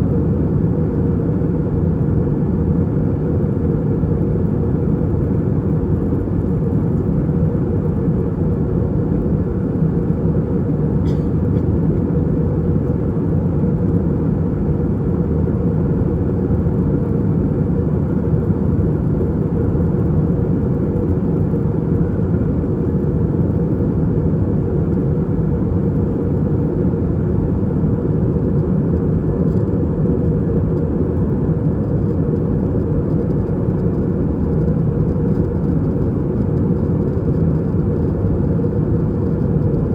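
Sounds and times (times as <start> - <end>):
airplane engines and airflow roar: 0.0 - 39.9.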